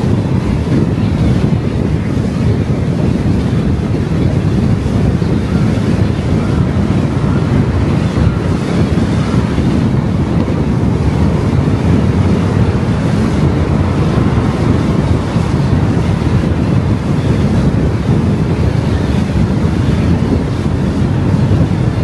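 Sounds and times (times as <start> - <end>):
car wind and road noise: 0.0 - 22.0
wind buffeting microphone: 0.0 - 22.0.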